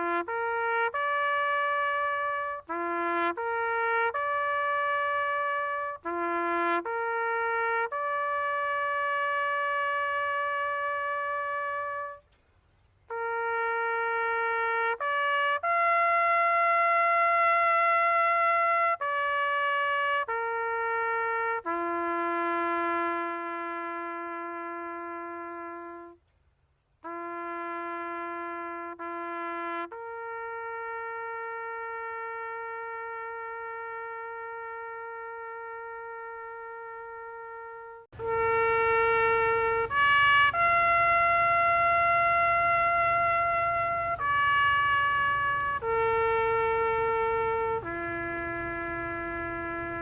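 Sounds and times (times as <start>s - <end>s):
slow brass-like melody: 0.0s - 26.3s, 27.0s - 50.0s.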